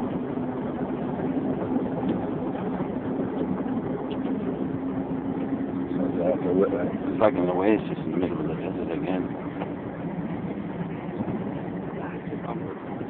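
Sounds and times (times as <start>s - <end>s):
coach engine drone: 0.0s - 13.0s
road noise: 0.0s - 13.0s.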